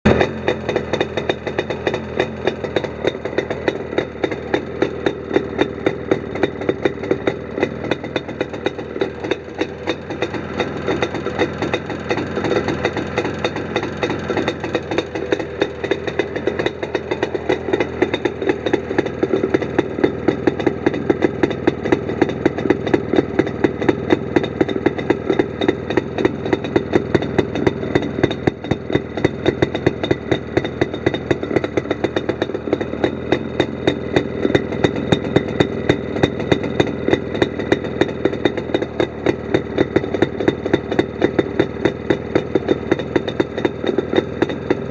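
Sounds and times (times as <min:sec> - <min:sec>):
two-stroke motorcycle idling: 0:00.0 - 0:44.9.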